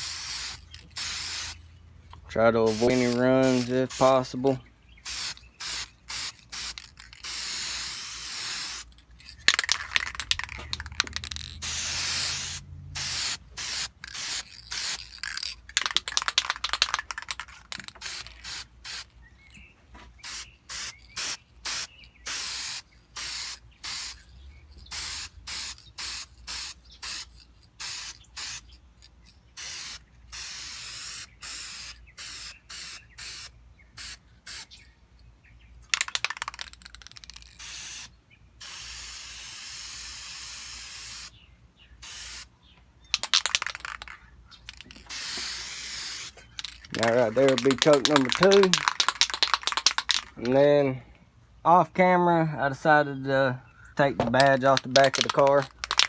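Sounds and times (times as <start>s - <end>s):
spray paint can hissing: 0.0s - 1.6s, 2.6s - 19.1s, 20.2s - 24.2s, 24.8s - 28.7s, 29.6s - 34.7s, 35.9s - 41.3s, 42.0s - 42.5s, 43.1s - 50.5s, 54.4s - 56.0s.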